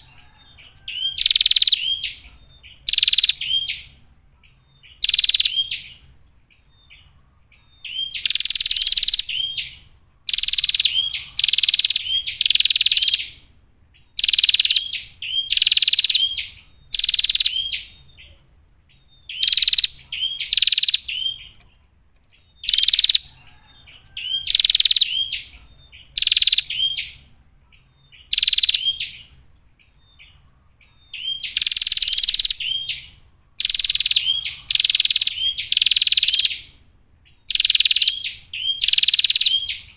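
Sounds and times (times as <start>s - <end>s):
bird buzzy chattering calls: 0.0s - 4.0s, 4.9s - 6.0s, 7.8s - 13.4s, 14.2s - 18.4s, 19.3s - 21.7s, 22.4s - 27.3s, 28.2s - 36.8s, 37.4s - 39.9s.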